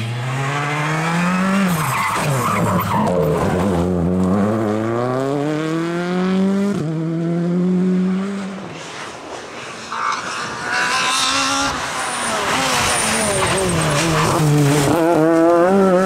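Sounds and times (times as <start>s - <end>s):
rally car engine passing: 0.0s - 16.0s.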